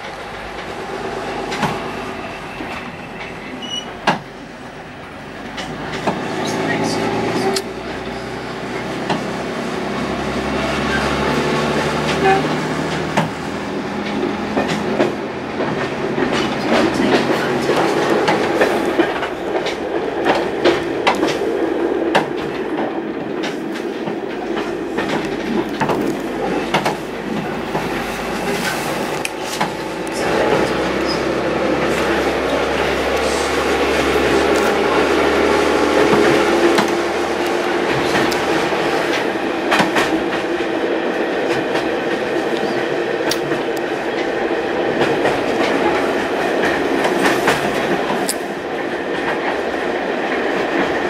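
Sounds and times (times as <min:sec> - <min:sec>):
train carriage rumble: 0:00.0 - 0:51.0
wheels clacking over rail joints: 0:05.1 - 0:51.0.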